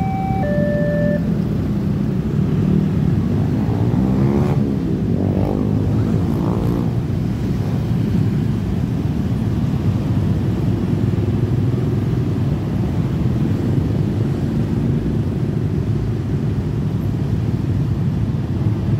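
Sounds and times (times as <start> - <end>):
dense road traffic rumble: 0.0 - 18.9.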